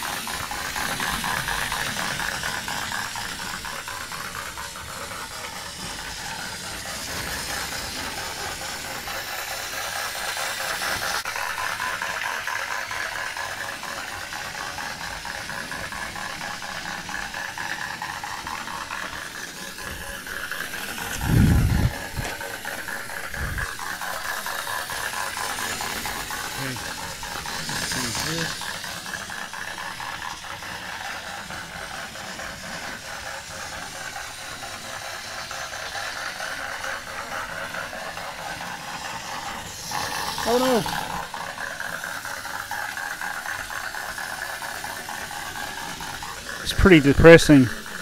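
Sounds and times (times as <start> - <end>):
toy train motor whirring: 0.0 - 48.0.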